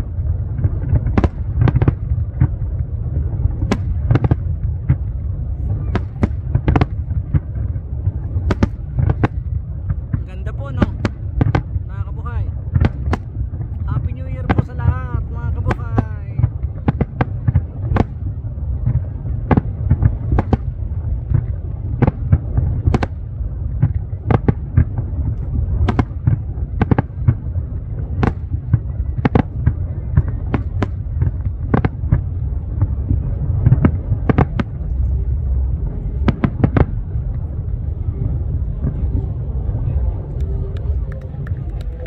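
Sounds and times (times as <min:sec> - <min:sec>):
firework bangs: 0:00.0 - 0:42.0
steady low rumble: 0:00.0 - 0:42.0.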